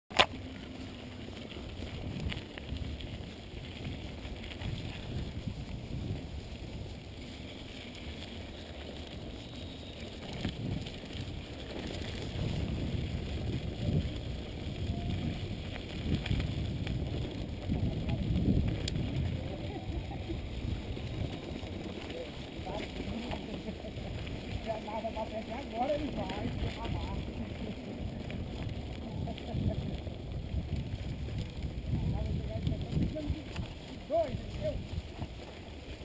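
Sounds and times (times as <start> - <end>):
bike clicks and rattles: 0.1 - 36.0
bike tyres rumbling on dirt: 0.1 - 36.0
wind buffeting microphone: 0.9 - 36.0.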